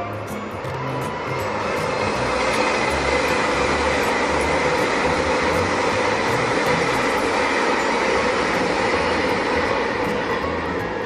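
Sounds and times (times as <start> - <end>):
passenger train running past: 0.0 - 11.0.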